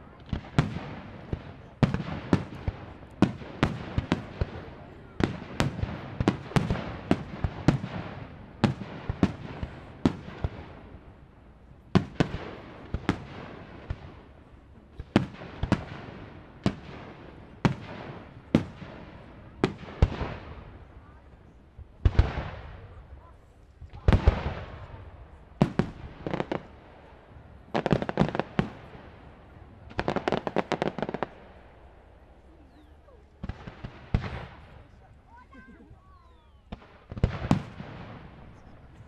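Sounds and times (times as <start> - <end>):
fireworks bangs echoing: 0.0 - 11.2, 11.8 - 21.1, 22.0 - 39.0.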